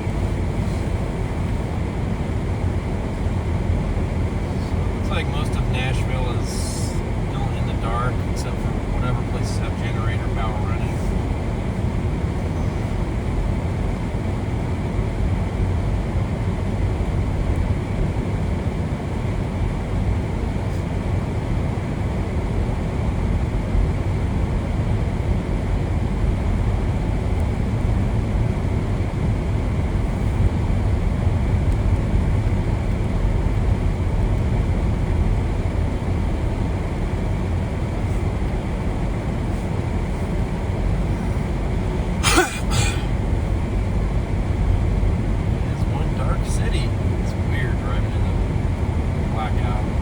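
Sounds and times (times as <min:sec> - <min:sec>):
vehicle road and engine rumble: 0:00.0 - 0:50.0.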